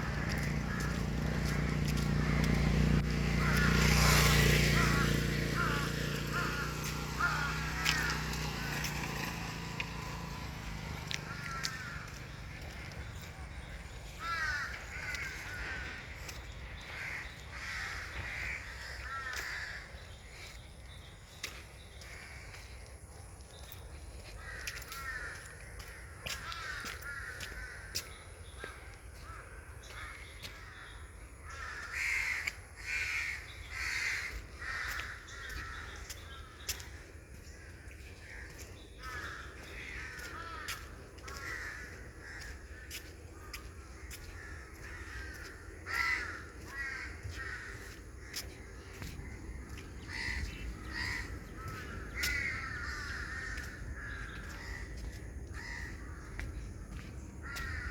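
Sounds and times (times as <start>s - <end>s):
birds calling: 0.0s - 57.9s.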